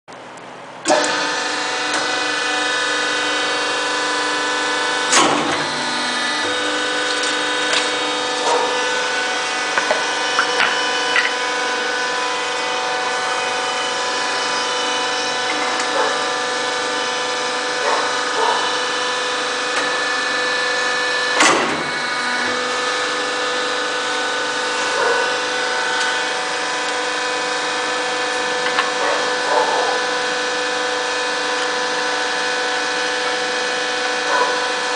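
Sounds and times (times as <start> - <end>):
hydraulic unit whining: 0.1 - 34.9.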